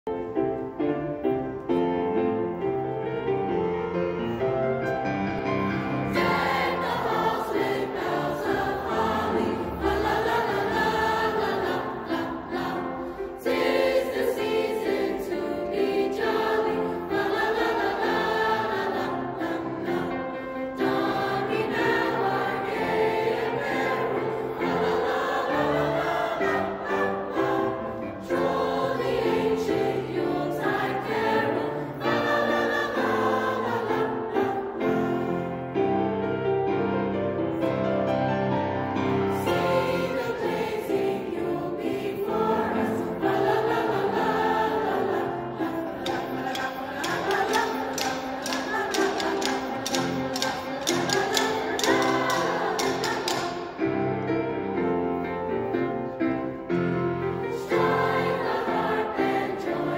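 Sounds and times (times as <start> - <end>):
choir singing in a church: 0.0 - 59.9.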